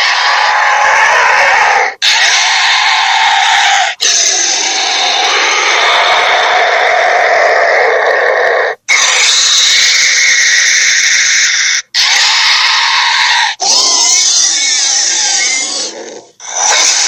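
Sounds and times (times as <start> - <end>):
raspy monster calls: 0.0 - 17.0.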